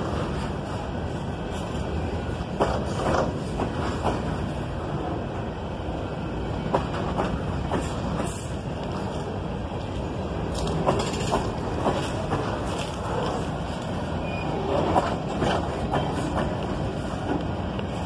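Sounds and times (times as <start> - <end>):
train rail rumble: 0.0 - 18.0.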